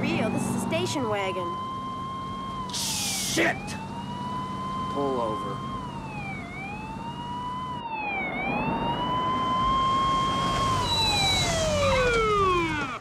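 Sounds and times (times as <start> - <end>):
car engines rumbling: 0.0 - 13.0
police siren wailing: 0.0 - 13.0.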